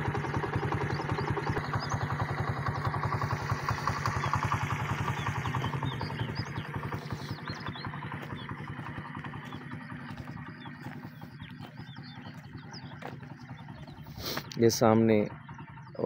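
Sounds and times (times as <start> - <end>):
engine idling: 0.0 - 16.0
small birds chirping: 0.0 - 16.0.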